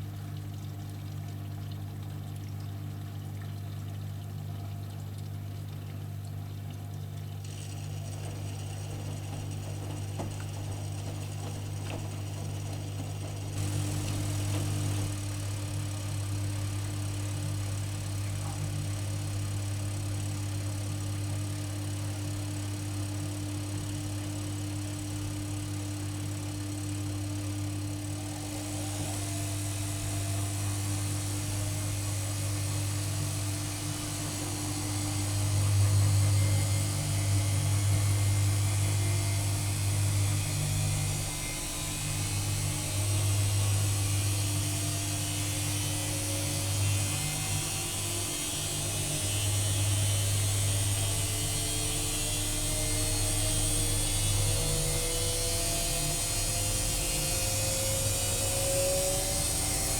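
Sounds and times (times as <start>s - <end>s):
washing machine drum whine: 0.0s - 59.9s
washing machine motor hum: 0.0s - 59.9s.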